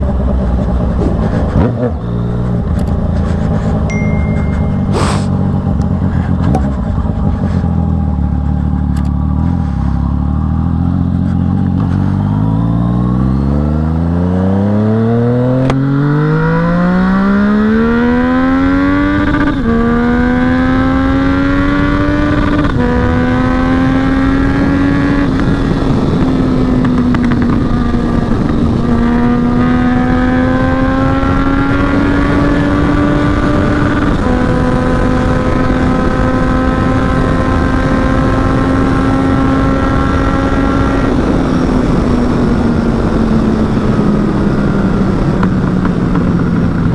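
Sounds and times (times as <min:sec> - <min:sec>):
motorcycle engine revving: 0:00.0 - 0:46.9
motorcycle shifting gears: 0:00.0 - 0:46.9.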